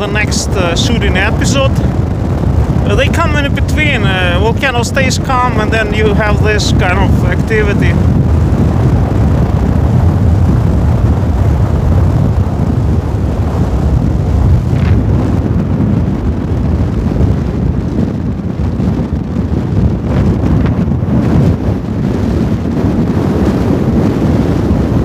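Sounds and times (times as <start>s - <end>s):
lava fountain rumbling: 0.0s - 25.0s.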